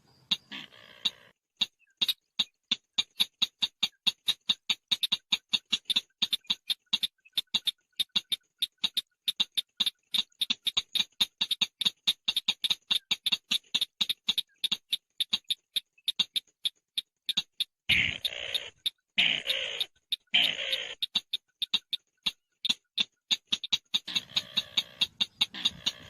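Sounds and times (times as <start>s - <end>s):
bird chattering: 0.0s - 26.0s.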